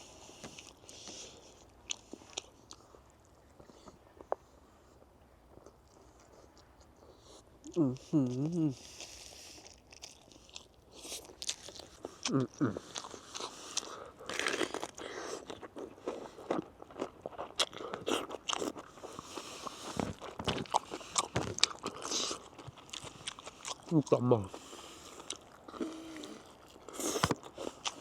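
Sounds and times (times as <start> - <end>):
crunching and chewing crisp food: 0.0 - 28.0.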